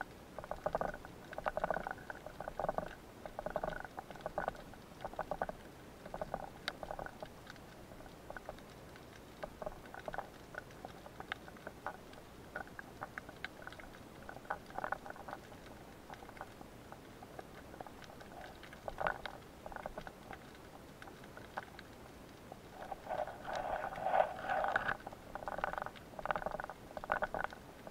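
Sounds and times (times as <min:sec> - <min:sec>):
underwater clicking: 0:00.4 - 0:27.9.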